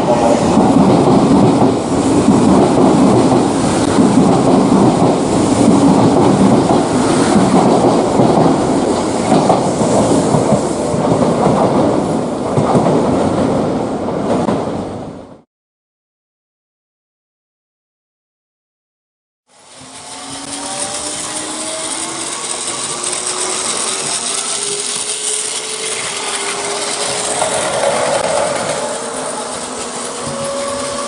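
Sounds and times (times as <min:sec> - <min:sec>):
train wheels clattering on rails: 0:00.0 - 0:14.7, 0:19.6 - 0:31.0.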